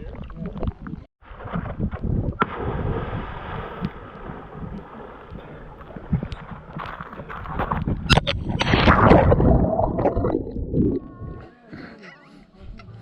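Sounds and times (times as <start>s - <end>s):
wind buffeting microphone: 0.7s - 11.5s.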